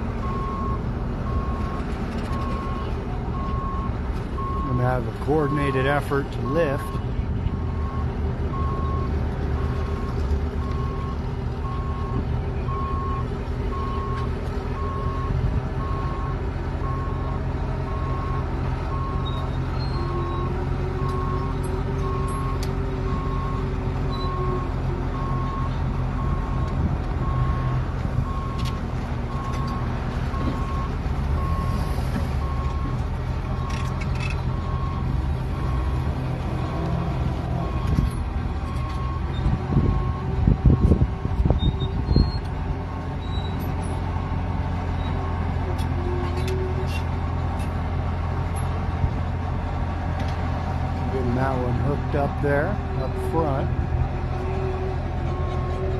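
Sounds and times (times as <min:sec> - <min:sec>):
heavy diesel engines running: 0:00.0 - 0:55.9.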